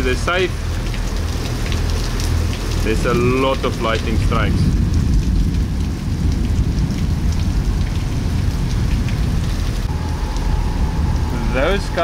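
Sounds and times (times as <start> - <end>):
heavy rain pouring: 0.0 - 12.0
raindrops pattering: 0.0 - 12.0.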